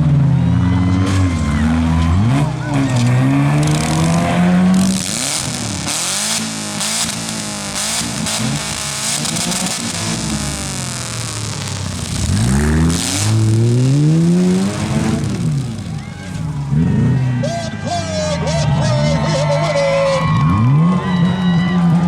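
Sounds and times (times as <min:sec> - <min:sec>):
car engines revving: 0:00.0 - 0:22.0
noisy background: 0:00.0 - 0:22.0.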